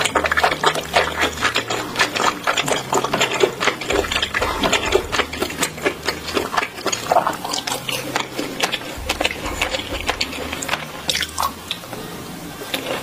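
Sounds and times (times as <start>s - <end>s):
chewing with mouth closed: 0.0s - 12.0s, 12.6s - 13.0s.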